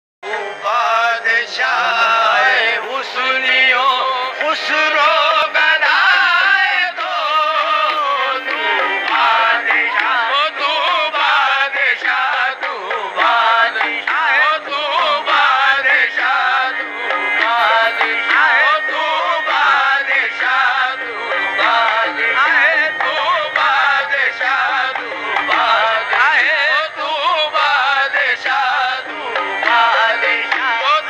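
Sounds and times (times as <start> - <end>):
person singing ornamented lines: 0.2 - 31.0.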